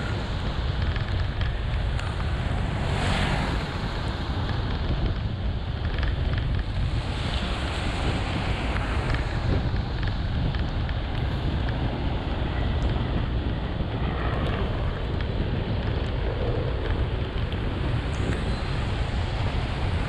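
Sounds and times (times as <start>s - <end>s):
tyres rushing on water: 0.0s - 20.0s
vehicle low rumble: 0.0s - 20.0s.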